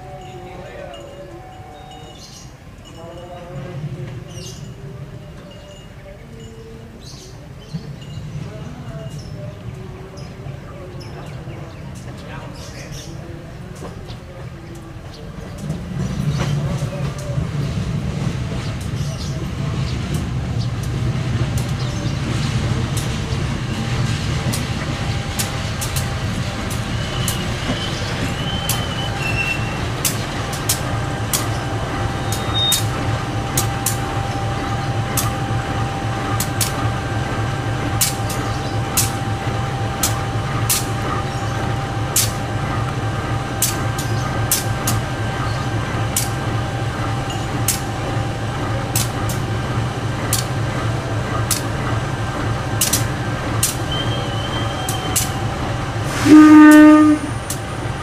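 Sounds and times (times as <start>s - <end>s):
train rumbling: 0.0s - 58.0s
wheels clacking on tracks: 0.0s - 58.0s.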